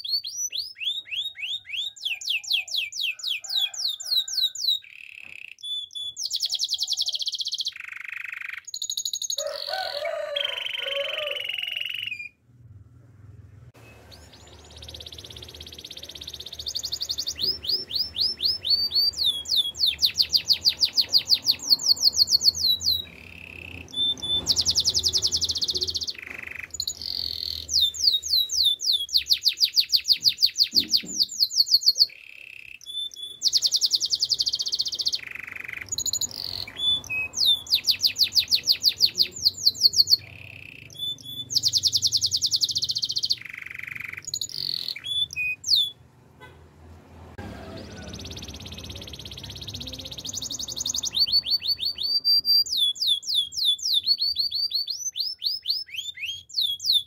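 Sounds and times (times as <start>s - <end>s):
canary singing trills: 0.0s - 12.4s, 13.8s - 46.1s, 47.6s - 57.0s.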